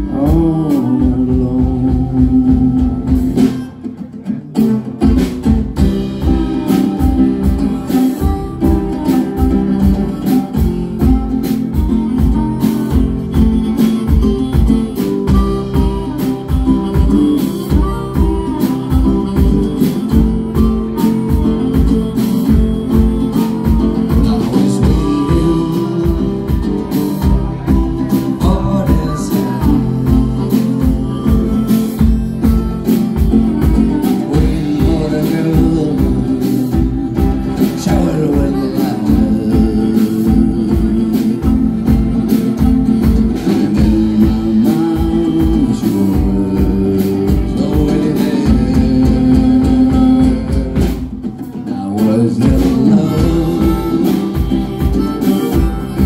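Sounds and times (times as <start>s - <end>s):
drum kit steady beat: 0.0s - 56.0s
strummed acoustic guitar: 0.0s - 56.0s
harmonica wailing: 4.6s - 51.1s, 52.1s - 56.0s.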